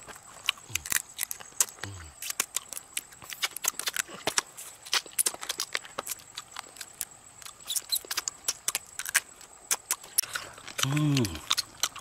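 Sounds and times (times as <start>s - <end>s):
crab shell cracking and crunching: 0.0s - 12.0s.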